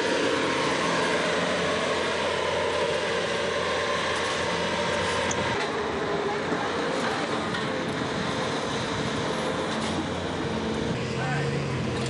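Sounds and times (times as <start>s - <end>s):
loader engine running: 0.0s - 12.0s.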